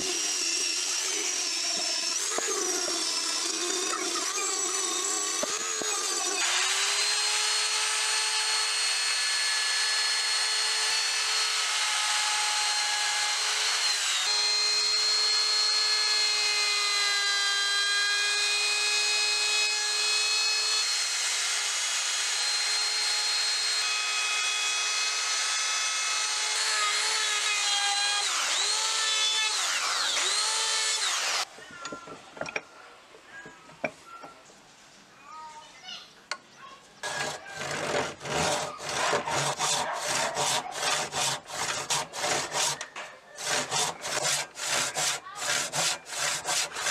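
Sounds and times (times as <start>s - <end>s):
electric power tool whining: 0.0s - 32.6s, 37.0s - 46.9s.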